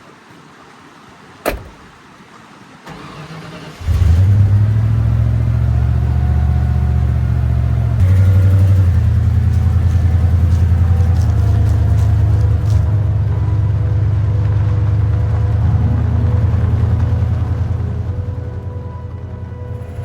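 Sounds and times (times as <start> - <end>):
truck engine cranking and running: 2.9 - 20.0.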